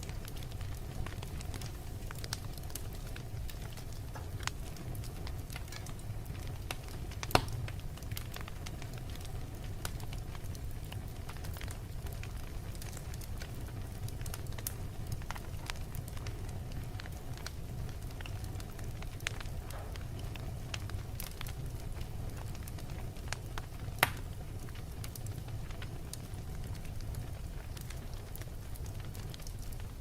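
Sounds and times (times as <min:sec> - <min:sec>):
fire crackles and pops: 0:00.0 - 0:30.0
fire flames rumbling: 0:00.0 - 0:30.0.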